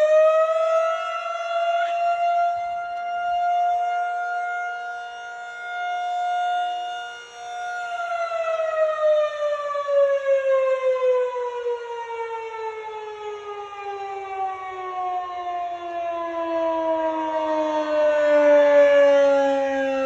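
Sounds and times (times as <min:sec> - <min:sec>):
civil defense siren winding down: 0:00.0 - 0:20.0.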